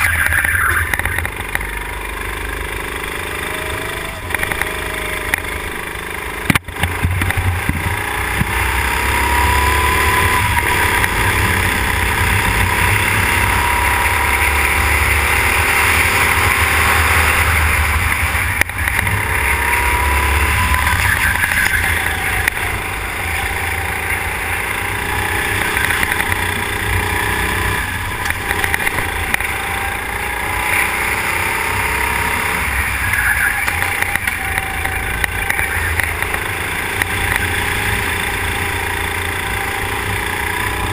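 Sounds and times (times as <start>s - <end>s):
go-kart engine running hard: 0.0s - 40.9s.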